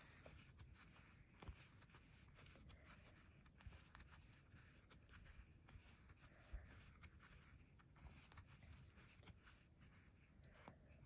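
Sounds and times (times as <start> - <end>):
yarn rustling: 0.0 - 11.0.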